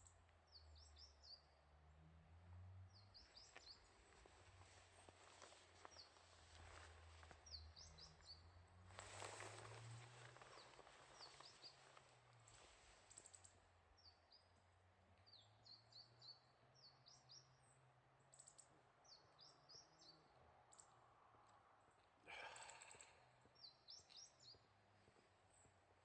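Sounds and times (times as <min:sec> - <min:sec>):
small birds chirping: 0:00.0 - 0:01.6, 0:02.9 - 0:21.0, 0:21.8 - 0:26.0.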